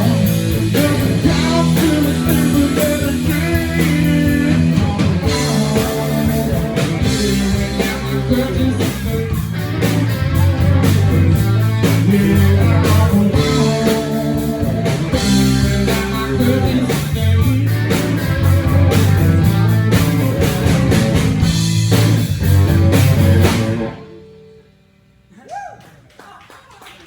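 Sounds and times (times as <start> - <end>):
blues-rock band playing: 0.0 - 24.6.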